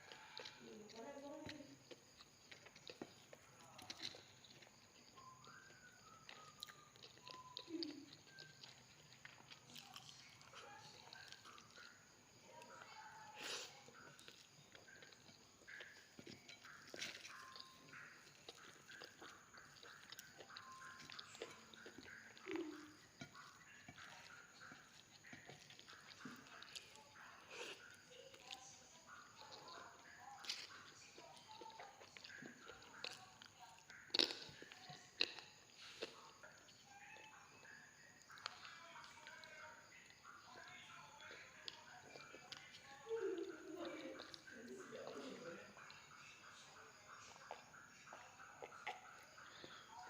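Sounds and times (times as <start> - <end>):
chewing clicks: 0.0 - 50.0.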